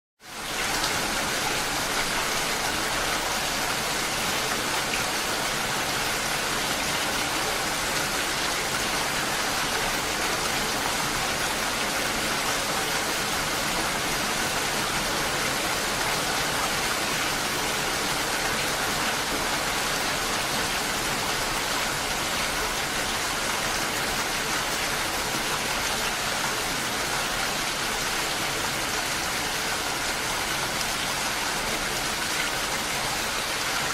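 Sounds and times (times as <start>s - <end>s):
steady rain: 0.2s - 33.9s.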